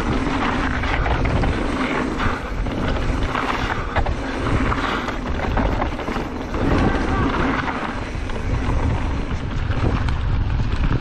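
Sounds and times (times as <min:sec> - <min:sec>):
bike knocks and rattles: 0:00.0 - 0:11.0
tyres rumbling on dirt trail: 0:00.0 - 0:11.0
wind buffeting microphone: 0:00.0 - 0:11.0.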